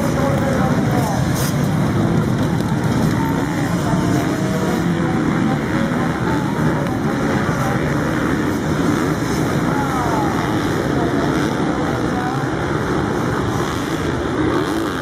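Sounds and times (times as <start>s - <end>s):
motocross bike engines racing: 0.0s - 15.0s.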